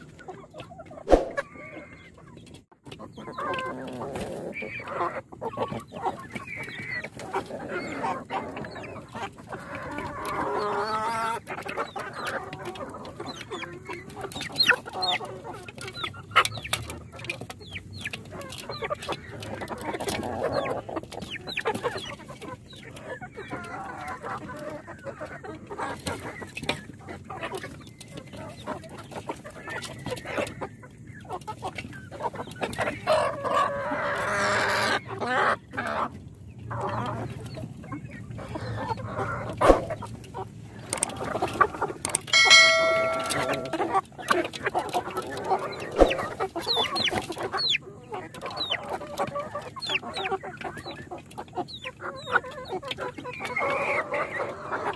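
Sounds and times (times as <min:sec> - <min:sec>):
chickens clucking: 0:00.0 - 0:54.9
drawn-out chicken calls: 0:00.0 - 0:54.9.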